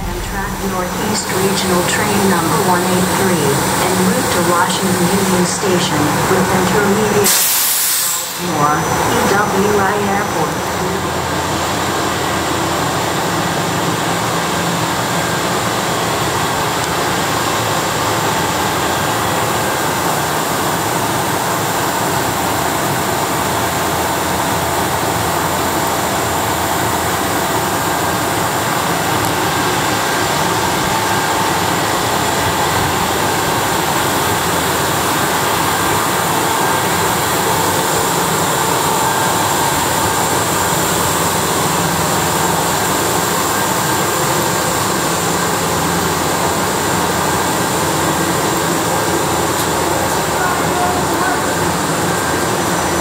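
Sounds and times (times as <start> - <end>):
train blowers and air conditioning hum: 0.0 - 53.0.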